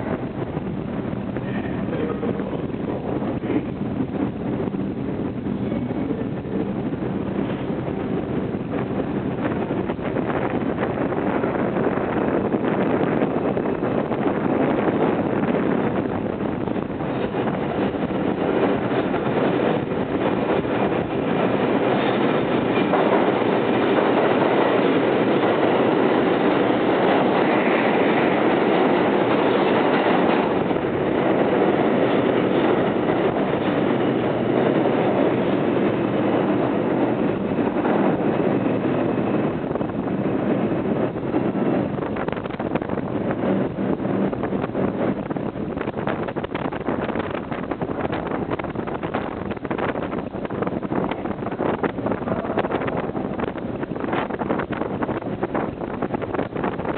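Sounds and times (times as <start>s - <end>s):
subway train wheels on rail: 0.0s - 56.9s.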